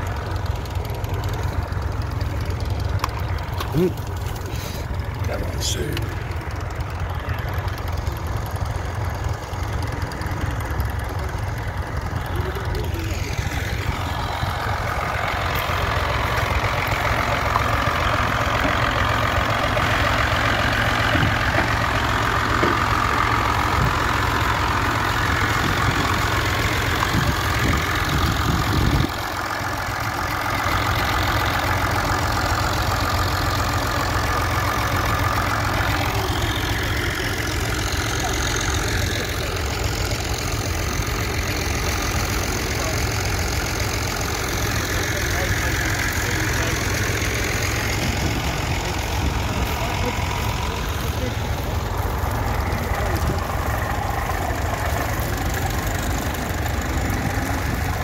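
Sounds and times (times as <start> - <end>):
tractor engine rumbling: 0.0 - 58.0.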